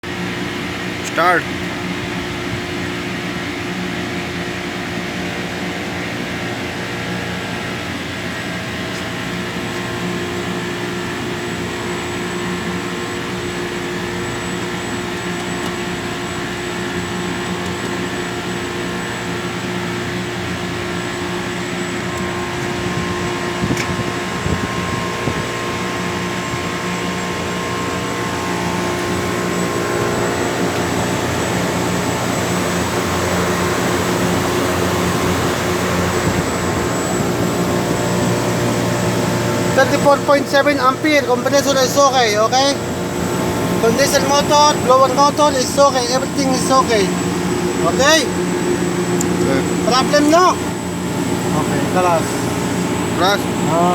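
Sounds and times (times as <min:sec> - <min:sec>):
air conditioner humming: 0:00.0 - 0:53.9.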